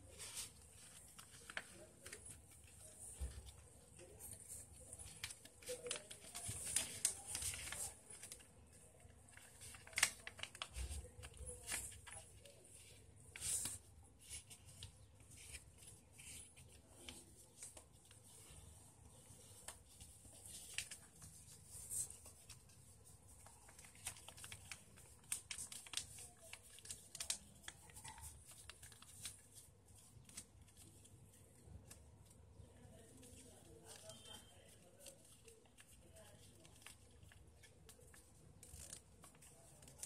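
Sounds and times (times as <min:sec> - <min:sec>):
paper rustling and crinkling: 0:00.0 - 0:40.0.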